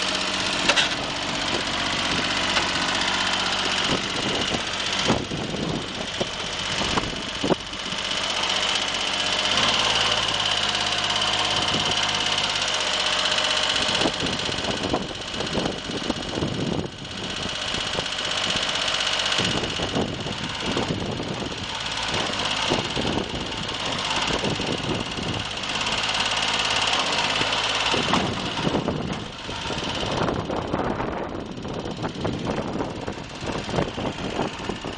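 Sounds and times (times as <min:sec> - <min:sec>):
tractor diesel engine running: 0:00.0 - 0:34.9
tractor rattle: 0:00.0 - 0:34.9.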